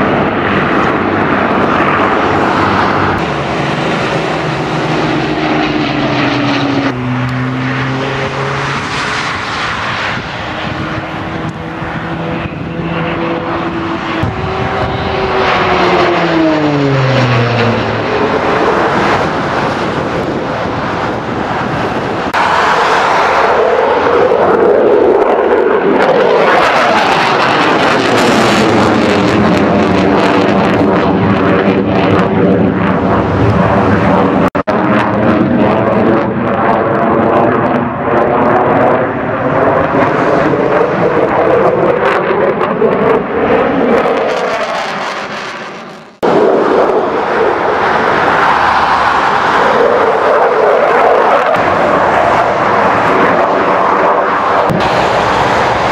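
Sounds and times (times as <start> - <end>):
jet engines roaring overhead: 0.0 - 55.9.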